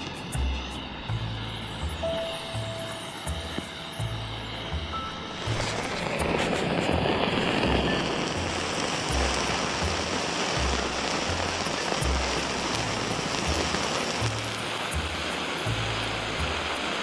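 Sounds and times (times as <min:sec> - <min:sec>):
background music with bass: 0:00.0 - 0:17.0
road flare hissing: 0:00.0 - 0:17.0.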